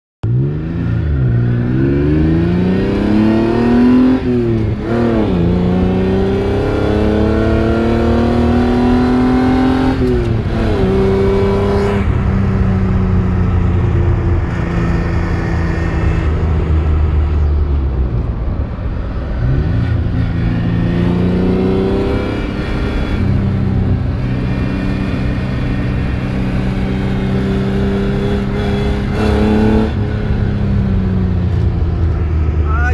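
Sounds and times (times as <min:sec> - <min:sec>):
car engine accelerating: 0:00.2 - 0:32.9.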